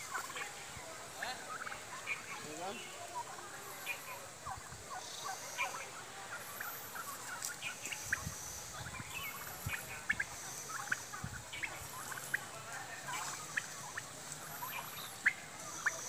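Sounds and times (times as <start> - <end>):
turkeys clucking and calling: 0.0 - 16.0.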